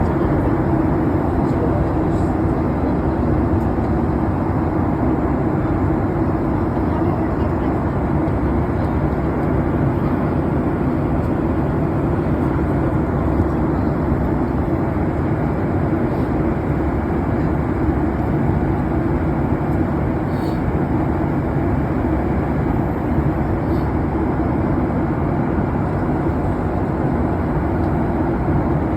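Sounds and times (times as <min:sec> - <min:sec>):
airliner cabin drone: 0:00.0 - 0:28.9.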